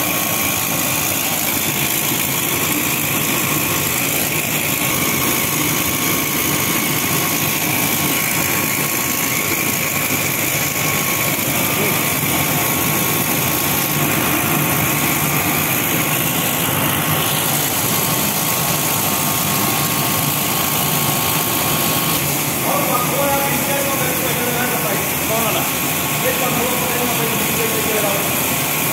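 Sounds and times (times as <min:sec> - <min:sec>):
machinery mechanical drone: 0:00.0 - 0:28.9.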